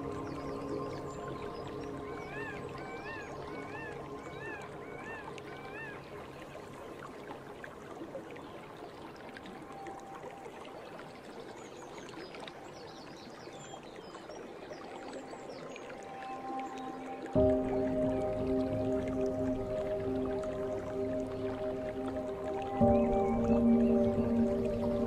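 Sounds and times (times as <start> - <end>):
water flowing: 0.0 - 25.0.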